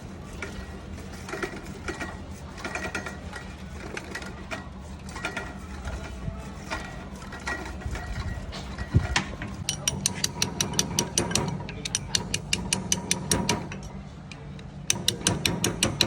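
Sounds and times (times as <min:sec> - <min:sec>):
metal scraping: 0:00.0 - 0:14.1
steady low hum: 0:00.0 - 0:16.0
mechanical clicking: 0:00.4 - 0:16.0.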